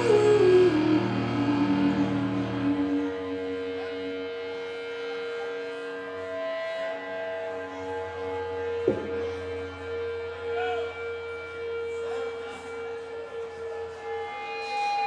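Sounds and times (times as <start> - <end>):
low amp hum: 0.0 - 14.5
electric guitar feedback tone: 0.0 - 15.0.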